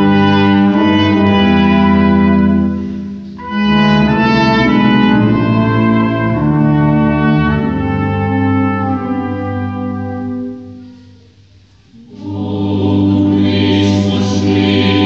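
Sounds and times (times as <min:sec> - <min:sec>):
brass ensemble playing chords: 0:00.0 - 0:15.0.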